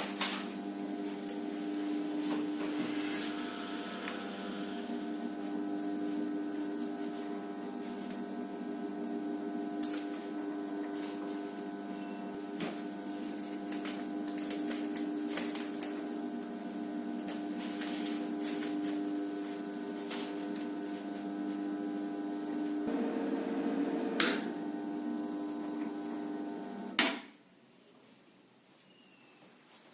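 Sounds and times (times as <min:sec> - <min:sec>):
band sealer motor hum: 0:00.0 - 0:27.0.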